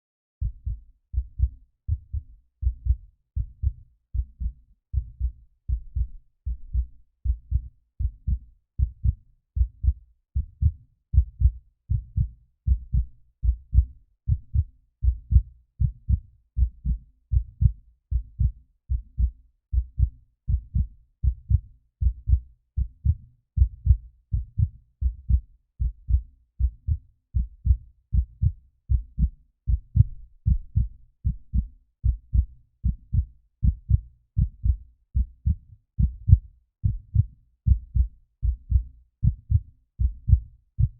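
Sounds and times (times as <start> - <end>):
heartbeat thumps: 0.4 - 40.9.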